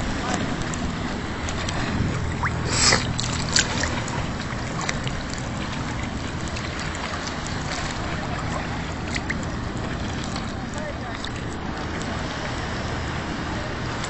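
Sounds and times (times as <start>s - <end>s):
low steady hum: 0.0s - 14.0s
sea water splashing: 0.0s - 14.0s.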